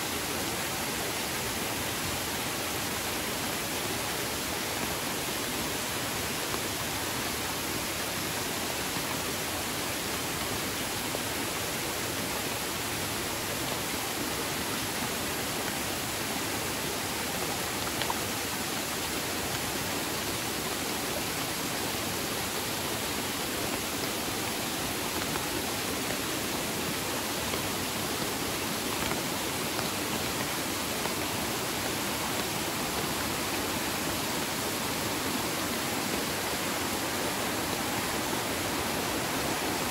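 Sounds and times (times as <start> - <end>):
fast river flowing: 0.0 - 39.9
small waterfall rushing: 0.0 - 39.9.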